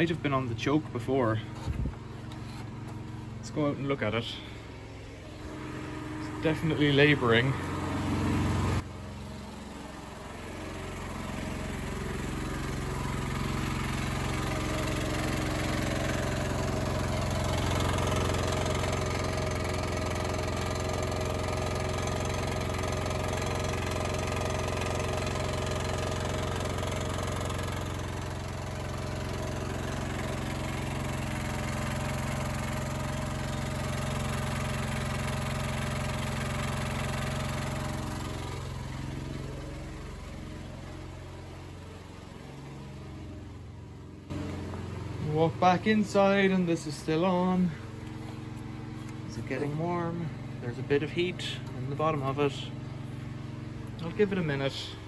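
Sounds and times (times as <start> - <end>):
generator engine labouring: 0.0 - 55.0.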